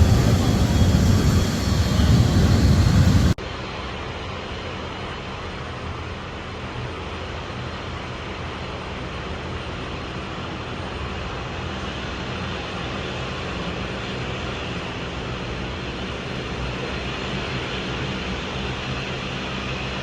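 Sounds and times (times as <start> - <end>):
aircraft engines running: 0.0 - 20.0.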